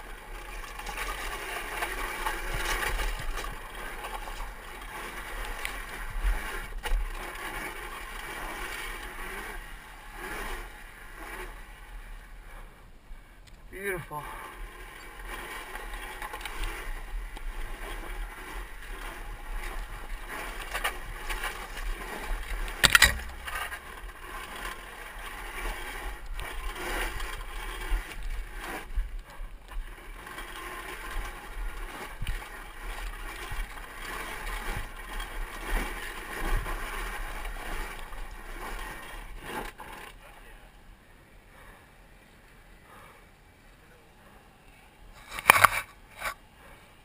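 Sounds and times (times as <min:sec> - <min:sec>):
dirt bike rattling: 0:00.0 - 0:43.2.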